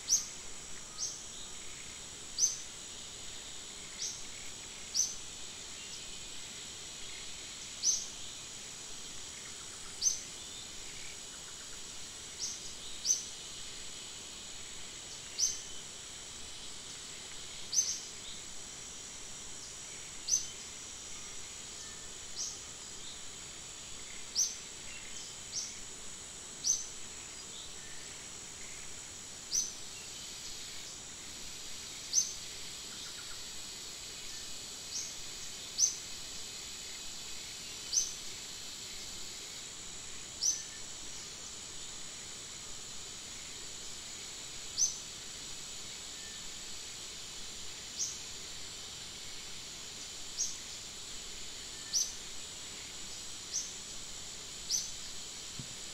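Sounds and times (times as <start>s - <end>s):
high insect drone: 0.0s - 55.9s.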